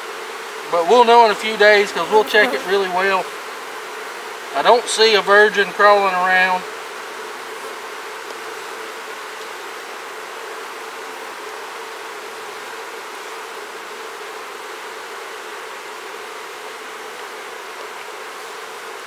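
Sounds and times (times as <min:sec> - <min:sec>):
honey bees humming: 0:00.0 - 0:19.0.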